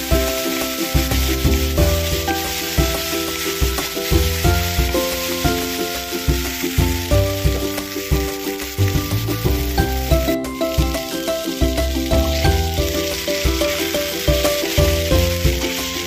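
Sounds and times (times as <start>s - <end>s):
instrumental music with beat: 0.0s - 16.0s
vegetables sizzling in hot oil: 0.0s - 16.0s.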